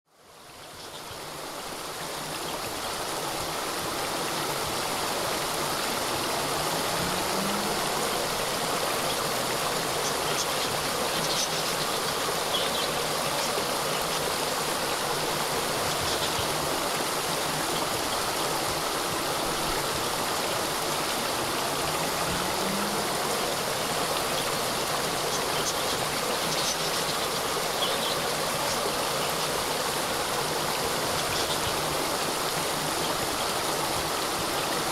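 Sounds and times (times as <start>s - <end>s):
small waterfall splashing: 0.1s - 34.9s.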